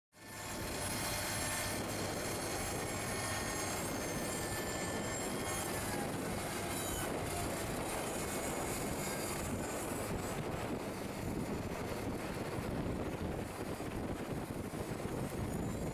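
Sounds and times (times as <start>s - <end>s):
faint high whines: 0.2s - 15.9s
tractor engine and machinery: 0.2s - 15.9s.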